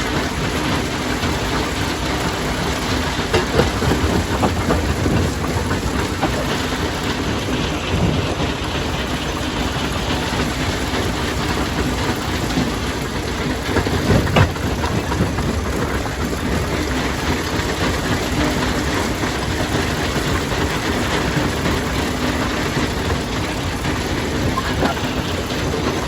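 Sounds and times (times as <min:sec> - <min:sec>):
stone crusher running: 0:00.0 - 0:26.0.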